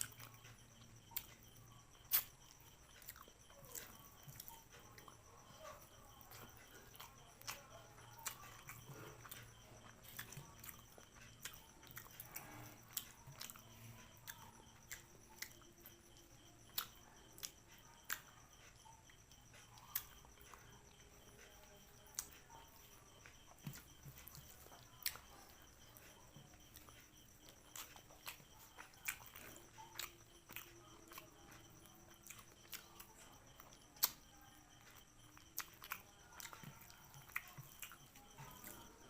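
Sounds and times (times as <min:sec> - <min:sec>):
food crunching: 0:00.0 - 0:39.0
person chewing food: 0:00.0 - 0:39.0.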